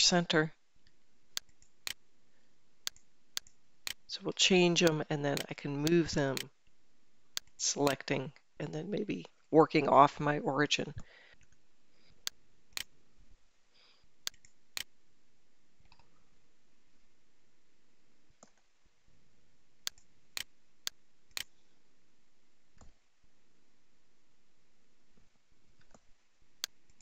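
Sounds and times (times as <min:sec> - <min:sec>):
low steady hiss: 0:00.0 - 0:27.0.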